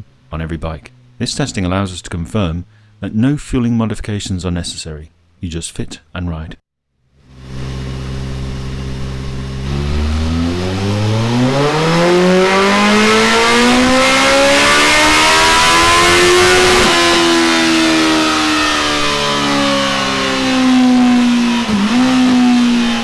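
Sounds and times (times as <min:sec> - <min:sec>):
motorcycle engine revving: 0:00.0 - 0:03.4, 0:07.2 - 0:23.0.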